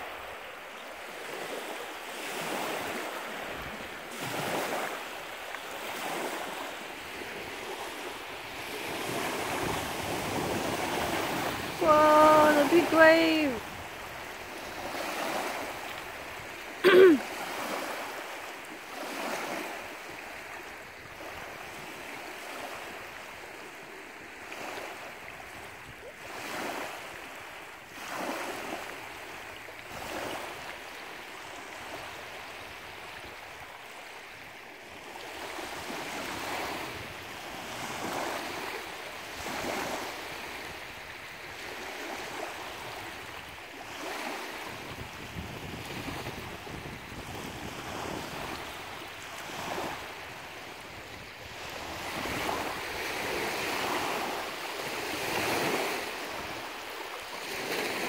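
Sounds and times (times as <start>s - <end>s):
waves lapping on gravel shore: 0.0s - 58.0s
wind: 0.0s - 58.0s.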